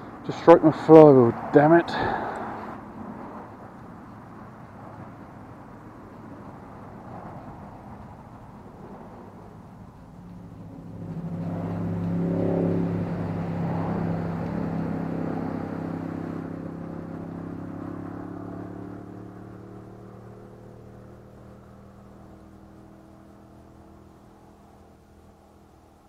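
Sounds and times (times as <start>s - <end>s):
passing vehicle engine hum: 0.0s - 26.0s.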